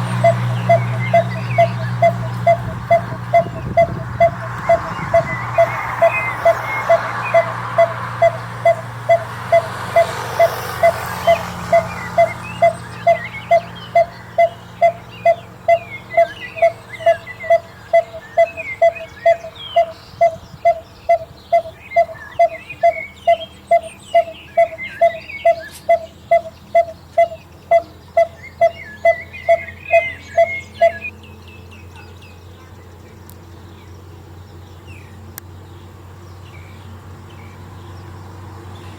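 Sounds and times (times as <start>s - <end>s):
bird calling repeated tuk note: 0.0s - 38.9s.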